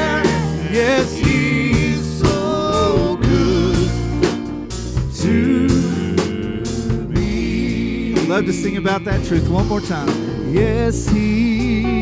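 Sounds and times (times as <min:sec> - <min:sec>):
congregation singing: 0:00.0 - 0:12.0
drum kit beat: 0:00.0 - 0:12.0
guitar: 0:00.0 - 0:12.0
keyboard chords: 0:00.0 - 0:12.0.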